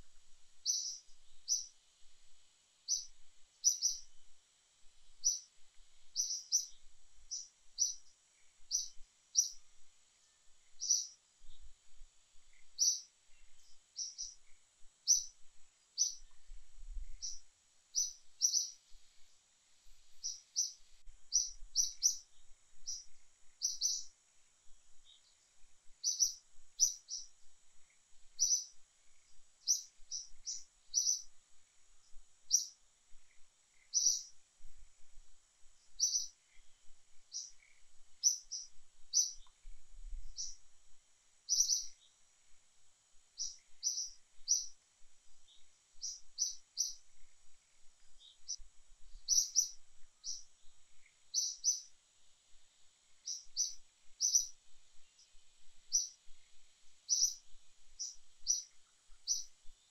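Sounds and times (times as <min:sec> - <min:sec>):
faint high-pitched whine: 0:00.0 - 0:59.9
small birds chirping: 0:00.0 - 0:59.9.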